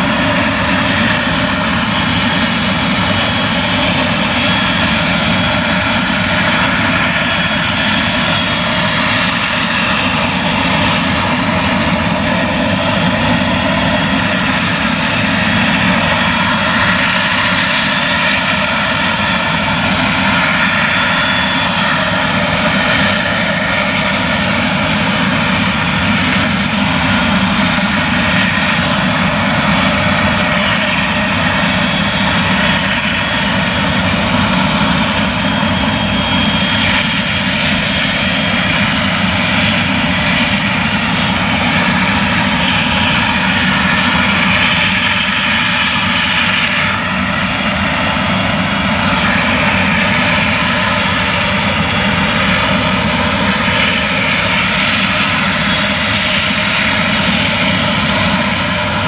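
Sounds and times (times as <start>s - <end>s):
chopper and blower drone: 0.0s - 59.0s.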